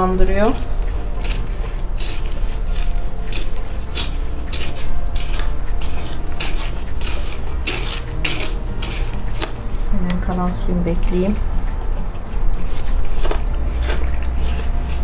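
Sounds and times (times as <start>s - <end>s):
mortar stirred in plastic tub: 0.0s - 15.0s.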